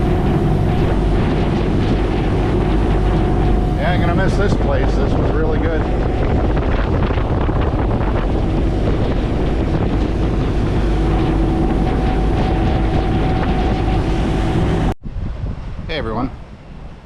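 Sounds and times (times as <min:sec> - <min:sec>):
steady hum: 0:00.0 - 0:15.0
ferry engine and water rush: 0:00.0 - 0:17.0
wind buffeting microphone: 0:00.0 - 0:17.0.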